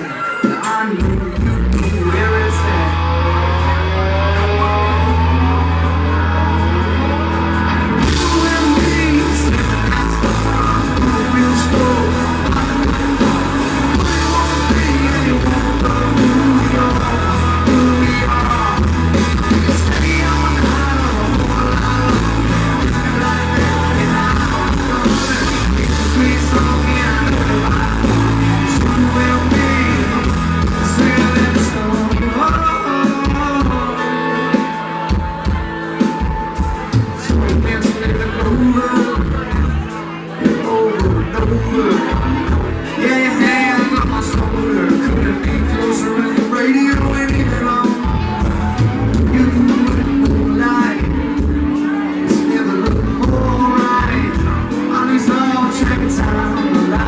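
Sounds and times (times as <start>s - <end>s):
country band playing live: 0.0s - 57.0s
moving bass line: 1.0s - 57.0s.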